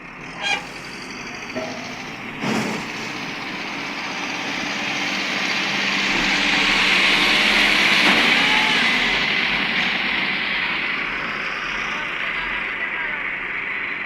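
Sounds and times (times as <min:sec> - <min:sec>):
tractor engines working hard: 0:00.0 - 0:14.0.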